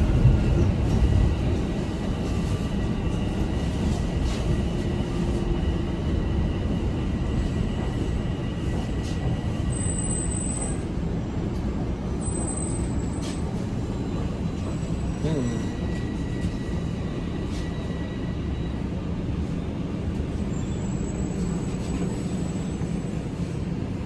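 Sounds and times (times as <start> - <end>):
subway train rumbling: 0.0 - 24.0
high-pitched train squeals: 2.2 - 11.0, 12.1 - 23.2.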